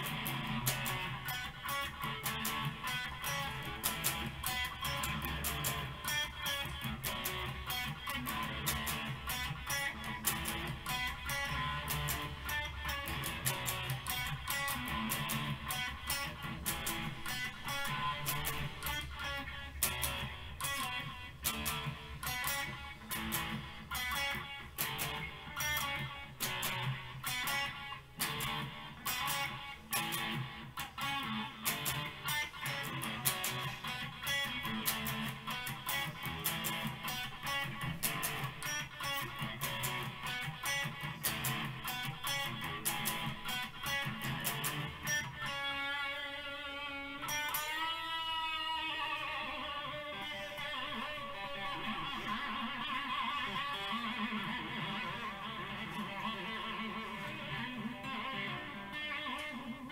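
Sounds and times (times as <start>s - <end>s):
electric guitar solo: 0.0s - 59.9s.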